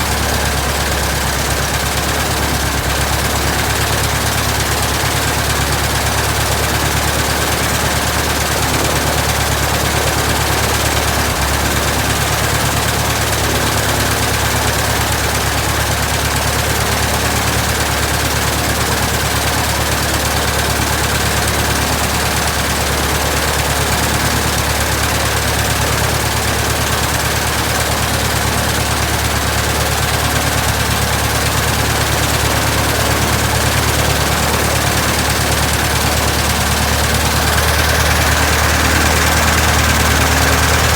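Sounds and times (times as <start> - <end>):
aircraft engine idling: 0.0 - 40.9.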